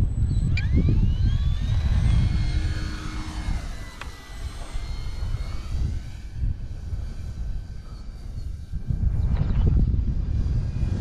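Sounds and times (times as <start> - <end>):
model plane electric motor whine: 0.0 - 11.0
wind buffeting microphone: 0.0 - 11.0.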